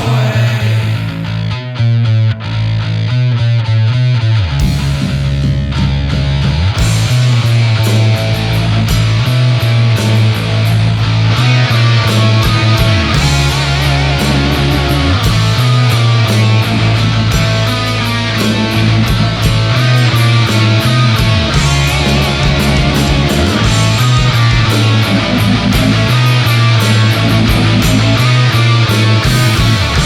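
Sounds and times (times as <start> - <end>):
bass guitar: 0.0 - 30.0
electric guitar: 0.0 - 30.0
fast drums: 4.6 - 30.0.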